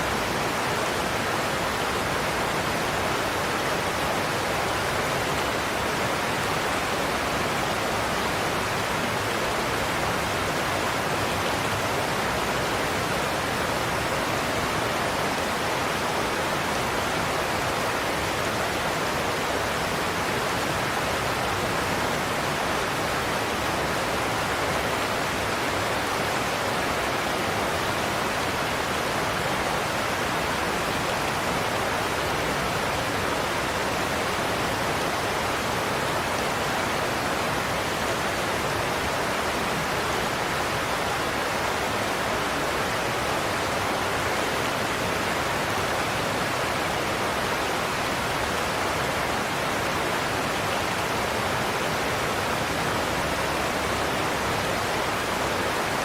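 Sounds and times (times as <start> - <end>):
rush of falling water: 0.0 - 56.0.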